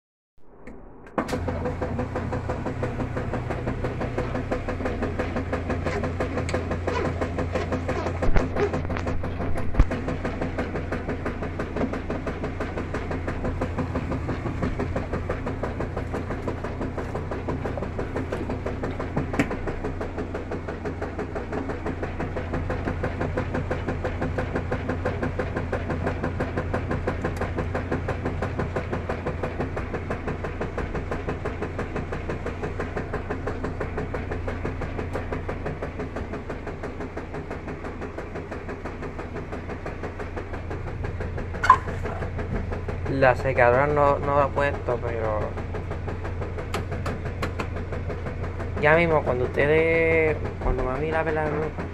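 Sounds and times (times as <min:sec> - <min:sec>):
washing machine motor hum: 0:00.5 - 0:51.9
water churning and sloshing: 0:01.2 - 0:51.9.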